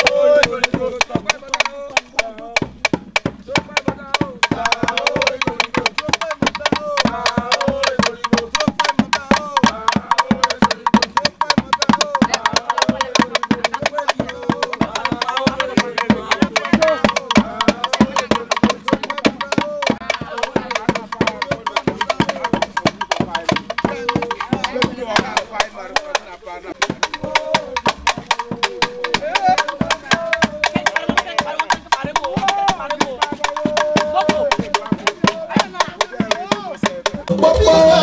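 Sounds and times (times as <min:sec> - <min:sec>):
traditional drum and wood-block percussion: 0:00.0 - 0:38.0
voices singing: 0:00.0 - 0:38.0.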